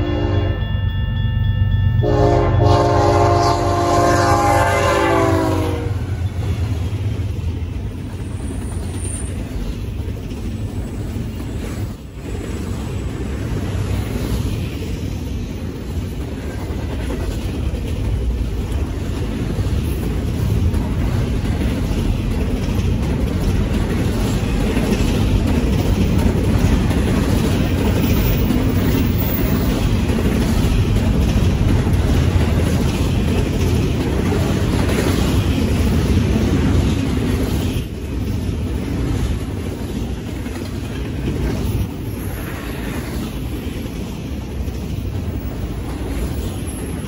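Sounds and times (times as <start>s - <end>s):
freight train wheels rumbling on rail: 0.0s - 47.0s.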